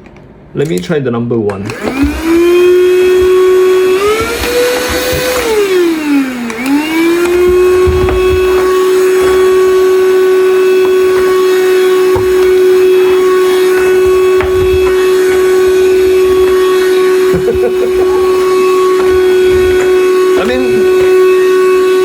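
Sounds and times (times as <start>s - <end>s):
vacuum cleaner motor whining: 1.6s - 22.0s.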